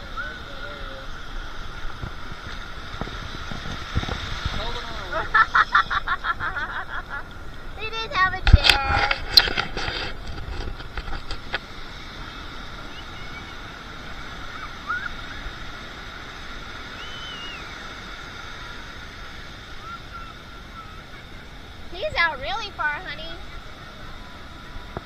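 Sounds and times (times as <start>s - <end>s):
surf washing on beach: 0.0s - 25.0s
wind: 0.0s - 25.0s.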